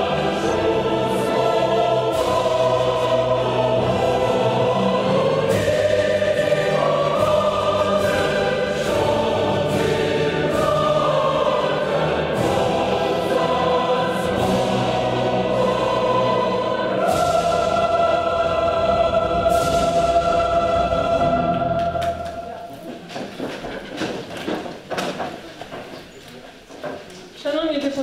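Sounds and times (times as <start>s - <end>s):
choir singing held notes: 0.0s - 23.6s.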